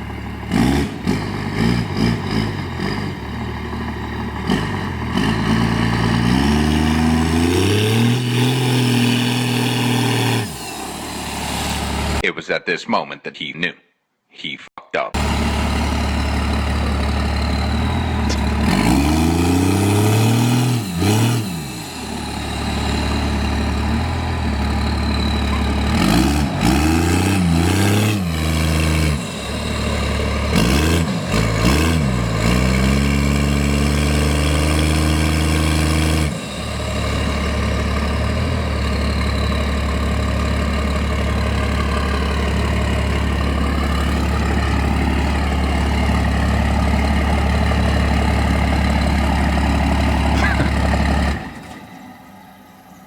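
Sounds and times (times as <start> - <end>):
diesel engine idling: 0.0 - 12.2, 15.2 - 53.0
diesel truck engine revving: 0.0 - 12.2, 15.2 - 53.0.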